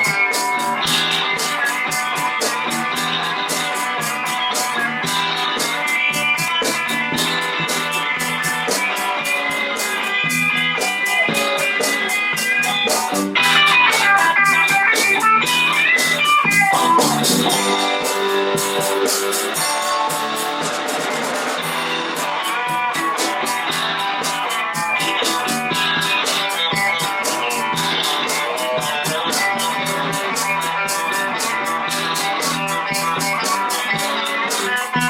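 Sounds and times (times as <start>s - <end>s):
electric guitar bending notes: 0.0s - 35.0s
live band playing: 0.0s - 35.0s.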